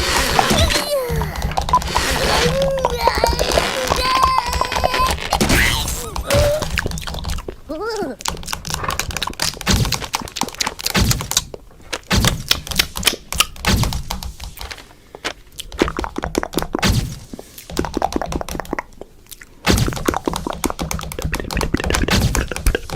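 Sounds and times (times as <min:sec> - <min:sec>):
cartoon clicks and cracks: 0:00.0 - 0:22.9.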